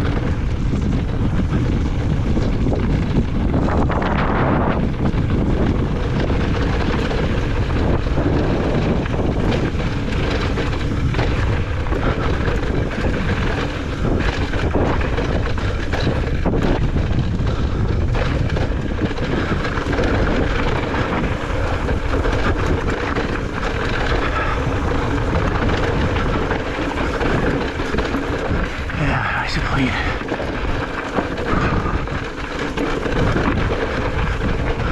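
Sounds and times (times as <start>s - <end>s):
bike knocking on rocks: 0.0s - 28.9s, 30.2s - 34.9s
mountain bike rumbling and rattling: 0.0s - 34.9s
wind buffeting microphone: 0.0s - 34.9s.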